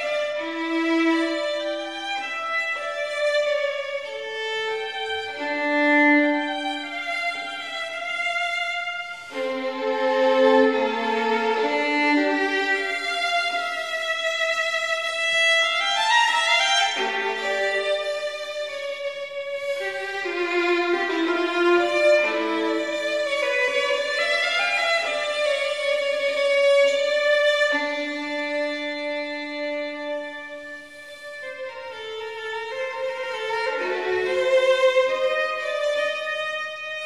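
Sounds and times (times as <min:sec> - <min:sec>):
instrumental music with held notes: 0:00.0 - 0:37.0.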